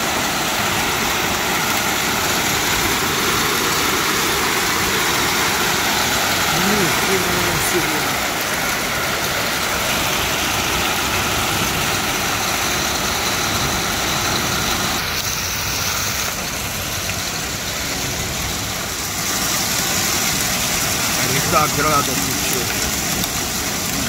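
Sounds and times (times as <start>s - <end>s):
hail clattering on ground: 0.0s - 24.0s.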